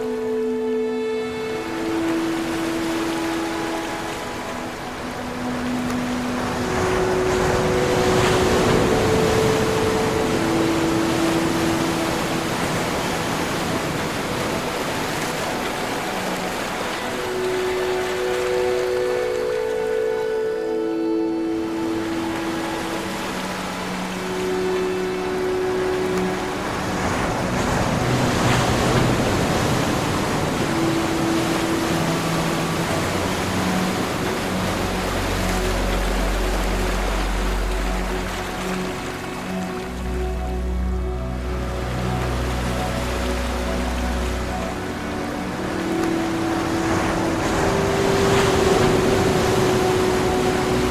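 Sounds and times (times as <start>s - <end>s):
ocean waves washing in: 0.0s - 50.9s.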